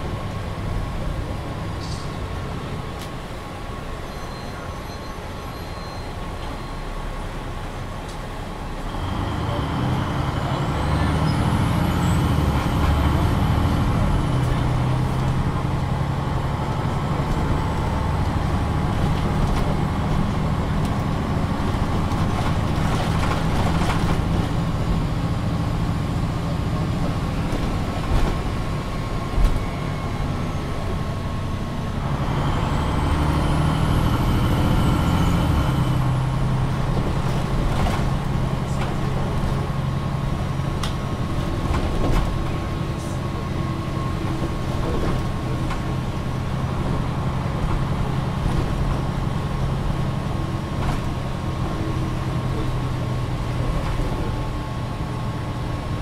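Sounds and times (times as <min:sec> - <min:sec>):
bus diesel engine pulling: 0:00.0 - 0:56.0.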